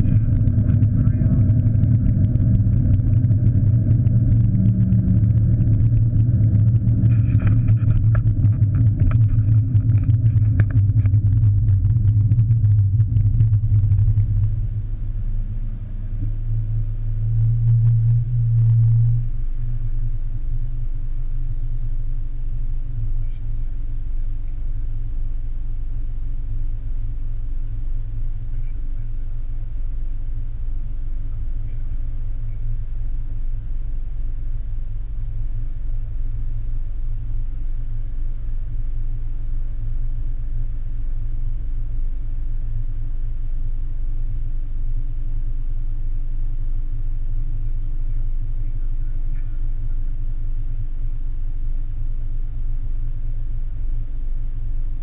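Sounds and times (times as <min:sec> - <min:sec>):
muffled car engine idling: 0:00.0 - 0:55.0.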